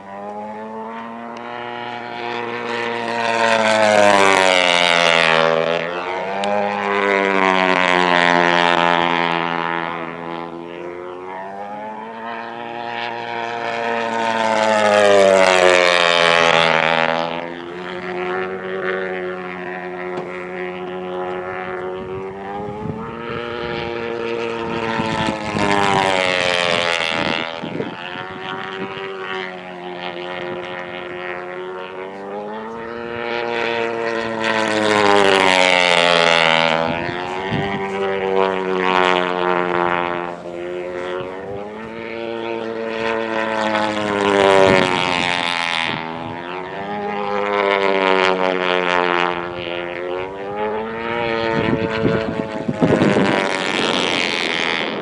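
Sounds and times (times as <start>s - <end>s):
model plane engine passing: 0.0s - 55.0s.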